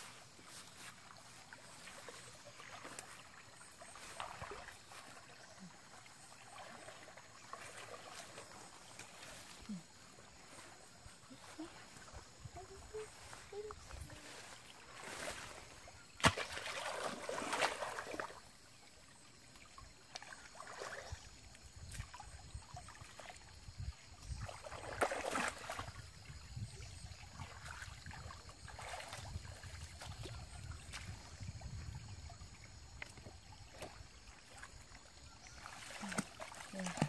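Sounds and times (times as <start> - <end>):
stream water splashing: 0.0 - 37.0.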